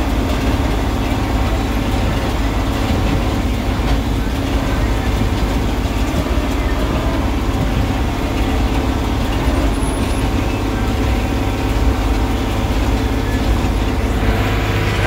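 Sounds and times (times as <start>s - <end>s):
baler working: 0.0s - 15.0s
tractor engine running under load: 0.0s - 15.0s.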